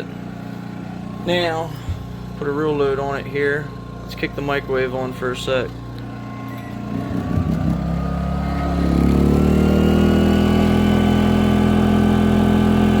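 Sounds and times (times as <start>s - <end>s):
generator engine speeding up: 0.0s - 13.0s.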